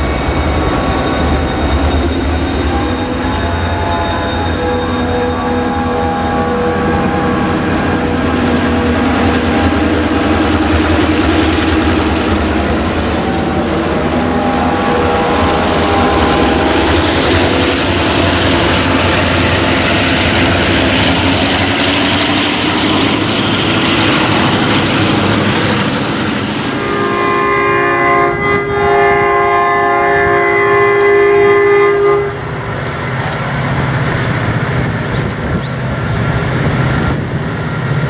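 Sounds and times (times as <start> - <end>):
diesel locomotive engines: 0.0 - 38.0
train wheels rolling: 0.0 - 38.0.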